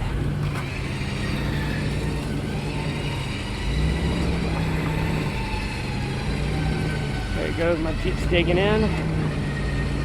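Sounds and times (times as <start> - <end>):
engine running: 0.0 - 10.0
winch whining under load: 0.0 - 10.0.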